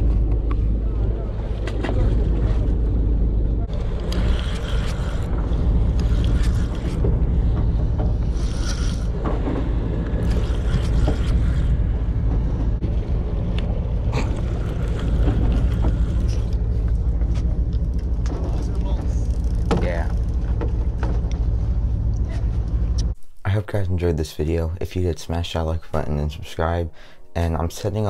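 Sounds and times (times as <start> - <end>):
boat engine running: 0.0 - 23.2
water noise: 0.0 - 23.3.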